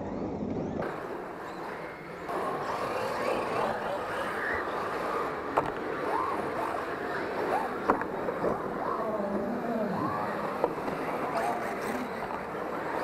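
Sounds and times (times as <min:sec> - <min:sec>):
electric rc car motors whining: 0:00.0 - 0:13.0.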